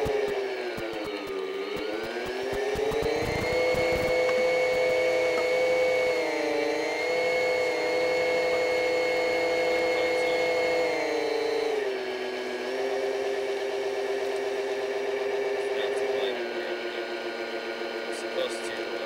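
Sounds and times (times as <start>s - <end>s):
electric motor and propeller whine: 0.0s - 19.0s.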